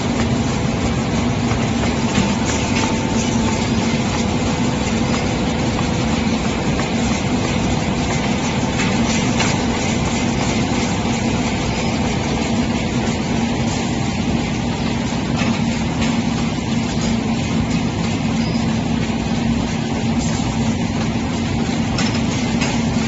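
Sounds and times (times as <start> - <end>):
constant low hum: 0.0 - 23.0
loud machine noise: 0.0 - 23.0.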